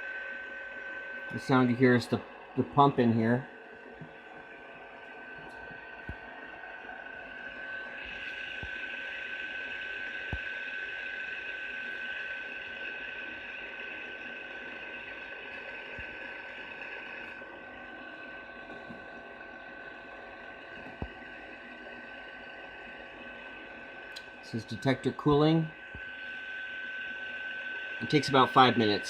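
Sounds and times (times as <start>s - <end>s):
cooling pump whirring: 0.0s - 29.0s
steady high whine: 0.0s - 29.0s.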